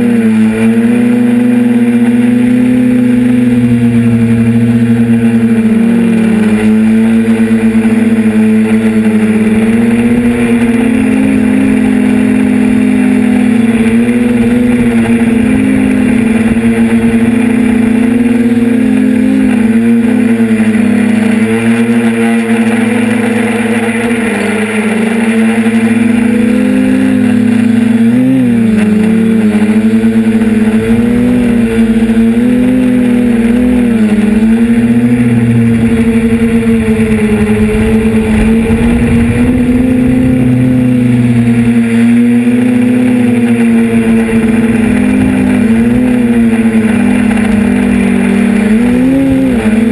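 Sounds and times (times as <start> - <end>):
model aircraft motor buzzing: 0.0 - 49.9
wind rumbling on microphone: 0.0 - 49.9.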